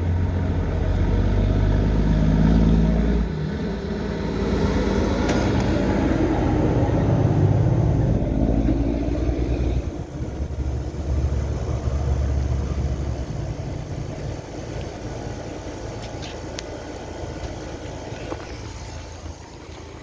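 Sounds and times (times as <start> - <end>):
truck diesel engine passing: 0.0 - 20.0.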